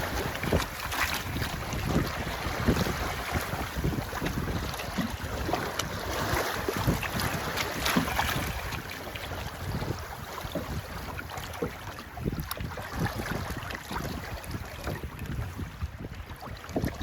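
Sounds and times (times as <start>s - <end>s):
rush of wind and water: 0.0s - 17.0s
wind buffeting microphone: 0.0s - 17.0s.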